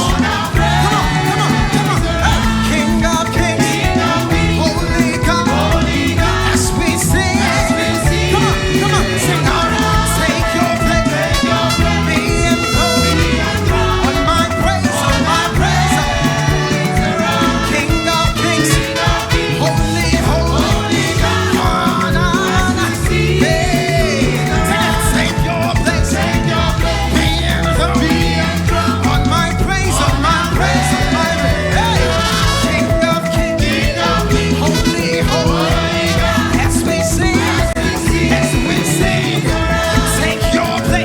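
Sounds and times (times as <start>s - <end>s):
bass: 0.0s - 41.0s
drums: 0.0s - 41.0s
people singing: 0.0s - 41.0s.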